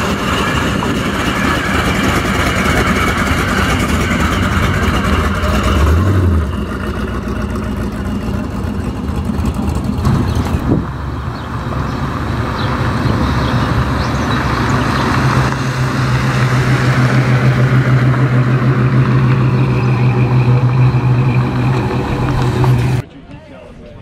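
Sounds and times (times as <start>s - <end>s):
car exhaust rumbling: 0.0s - 23.0s.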